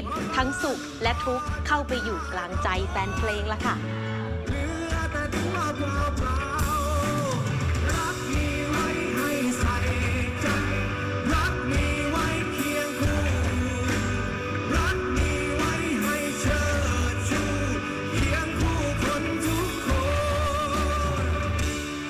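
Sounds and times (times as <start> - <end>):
person singing with vibrato: 0.0 - 22.0
rock song with band: 0.0 - 22.0.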